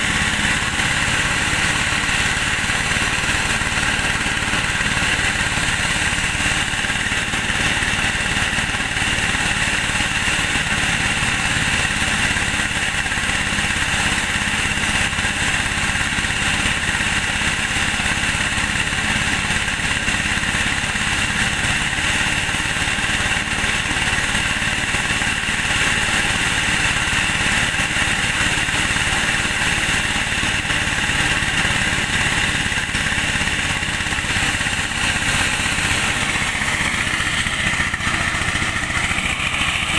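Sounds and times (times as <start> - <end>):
corn sheller machine running: 0.0 - 39.9.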